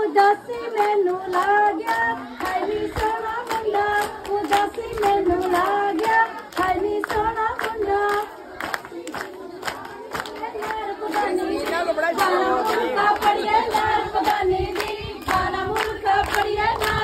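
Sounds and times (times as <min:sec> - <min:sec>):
rhythmic hand clapping: 0:00.0 - 0:17.0
women singing: 0:00.0 - 0:17.0.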